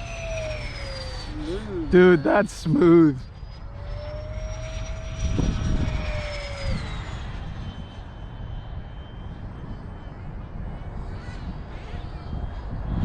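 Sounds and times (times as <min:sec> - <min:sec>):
electric ducted fan whine: 0:00.0 - 0:13.0
steady low rumble: 0:00.0 - 0:13.0.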